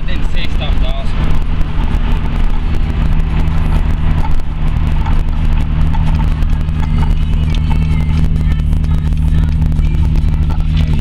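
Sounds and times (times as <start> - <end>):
car engine at steady revs: 0.0 - 11.0
road noise: 0.0 - 11.0.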